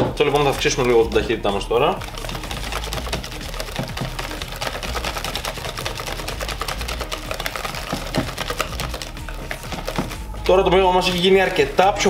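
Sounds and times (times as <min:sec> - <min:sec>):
batter beaten in a plastic bowl: 0:00.0 - 0:12.0.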